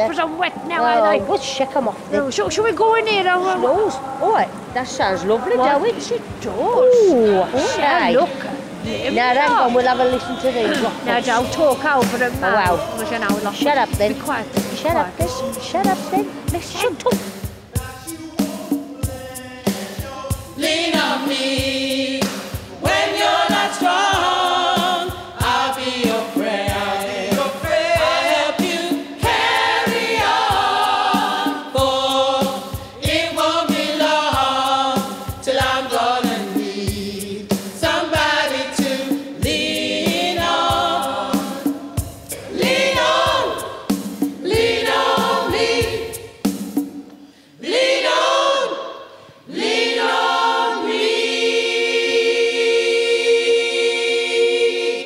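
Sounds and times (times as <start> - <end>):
choir singing gospel in harmony: 0.0 - 55.0.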